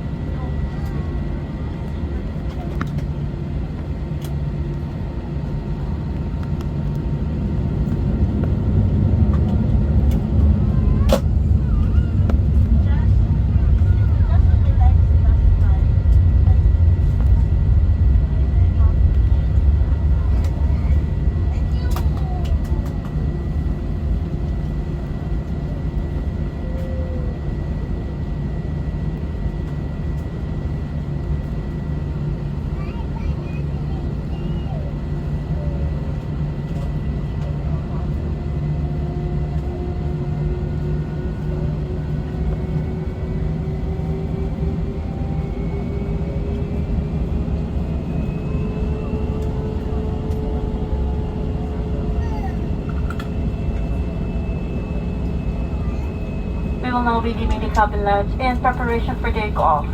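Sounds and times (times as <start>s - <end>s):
jet engines idling in cabin: 0.0s - 59.9s.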